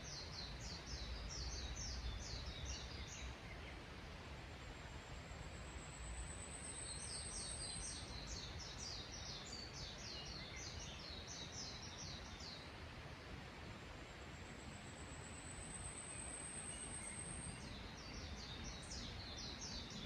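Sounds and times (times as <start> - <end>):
outdoor background hiss: 0.0 - 20.0
songbird singing: 0.0 - 20.0.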